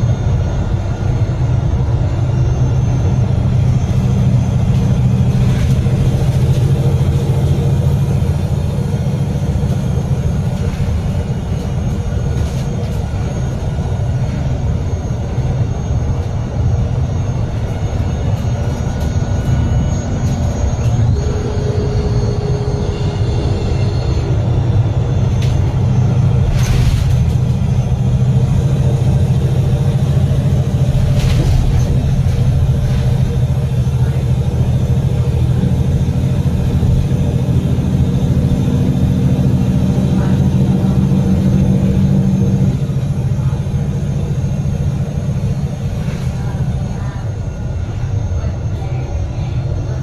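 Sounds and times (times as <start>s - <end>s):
bus diesel engine drone: 0.0s - 50.0s
road noise: 0.0s - 50.0s.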